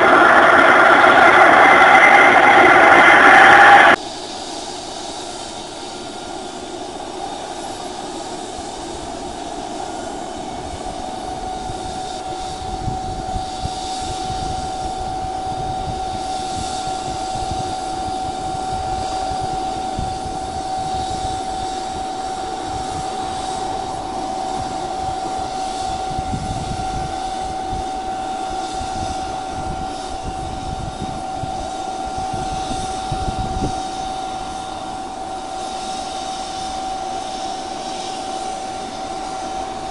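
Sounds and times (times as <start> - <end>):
continuous rushing noise: 0.0 - 39.9
helicopter turbine whine: 0.0 - 39.9.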